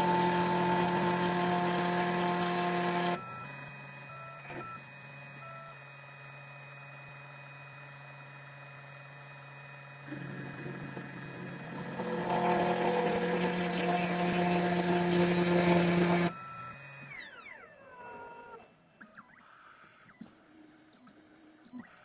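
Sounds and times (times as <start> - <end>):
key cutting machine whine: 0.0 - 18.6.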